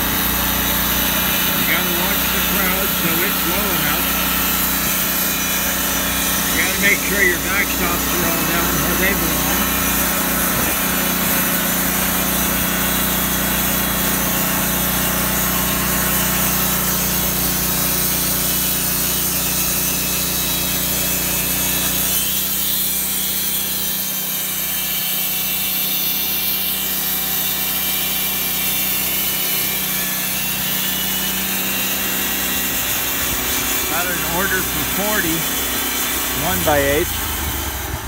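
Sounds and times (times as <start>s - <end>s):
band sawmill droning: 0.0s - 38.0s
saw blade hissing through wood: 0.0s - 38.0s.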